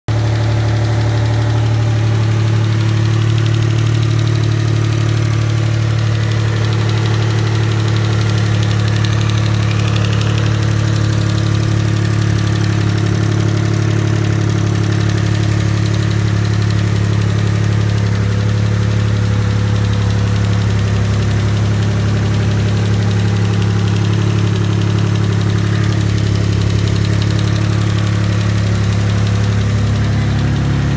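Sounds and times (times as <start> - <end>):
car engine idling: 0.1 - 30.9.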